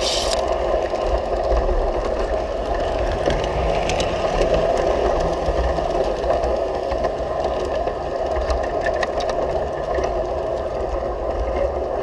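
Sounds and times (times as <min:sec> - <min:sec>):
model train motor and gears: 0:00.0 - 0:11.9
wheels rolling on rails: 0:00.0 - 0:12.0.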